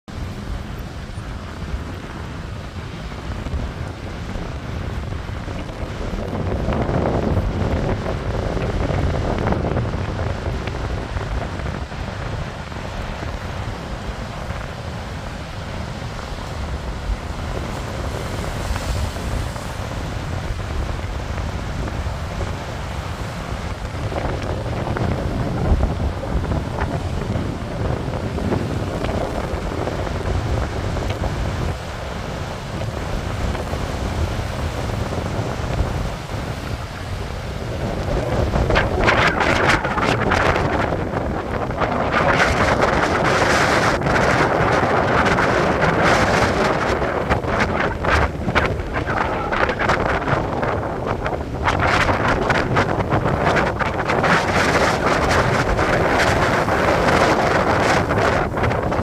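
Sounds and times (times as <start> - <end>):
rough sea breaking on shore: 0.1 - 59.0
wind buffeting microphone: 0.1 - 59.0.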